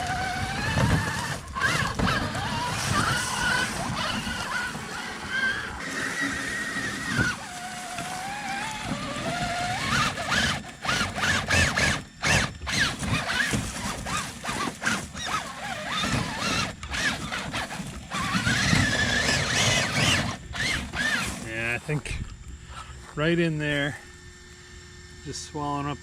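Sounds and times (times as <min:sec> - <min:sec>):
electric motor and drivetrain whining: 0:00.0 - 0:26.0.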